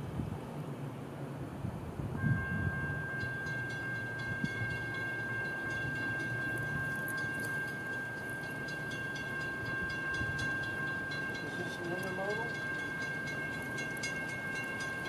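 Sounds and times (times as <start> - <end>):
train low rumble: 0.0 - 15.0
high-pitched ringing tone: 2.2 - 15.0.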